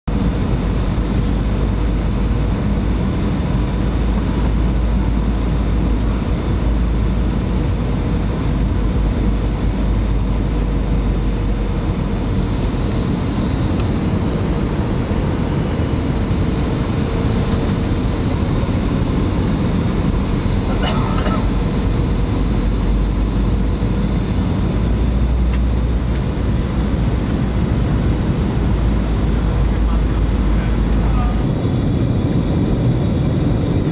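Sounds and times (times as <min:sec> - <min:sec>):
airliner engine and airflow rumble: 0:00.0 - 0:33.9.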